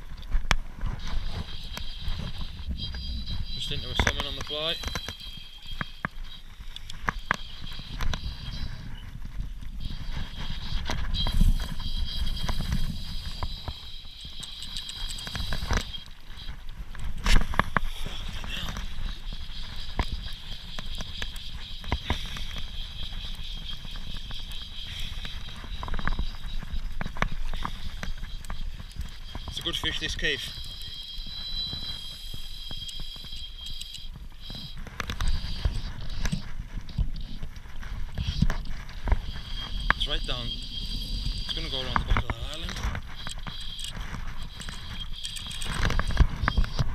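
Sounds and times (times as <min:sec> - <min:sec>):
wind rumble on microphone: 0:00.0 - 0:46.9
fly reel clicking: 0:01.0 - 0:08.8, 0:09.6 - 0:46.9.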